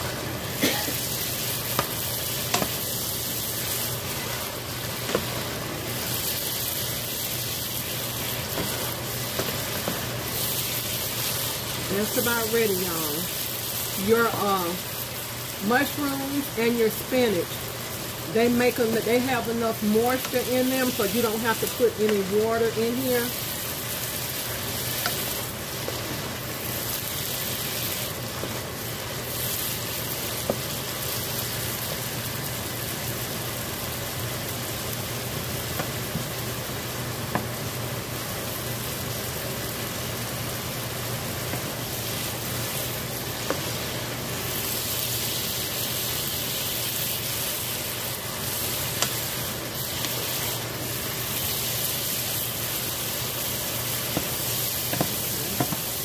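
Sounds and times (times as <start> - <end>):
vegetables sizzling in a skillet: 0.0 - 56.0.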